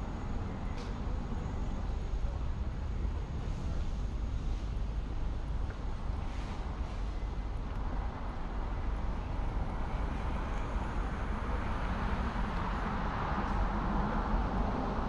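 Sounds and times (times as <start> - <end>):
road noise rumble: 0.0 - 15.0.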